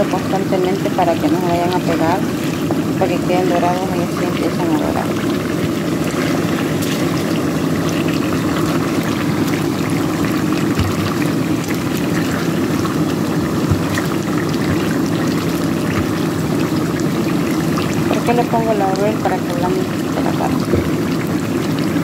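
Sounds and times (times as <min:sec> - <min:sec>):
meat frying in lard: 0:00.0 - 0:22.0.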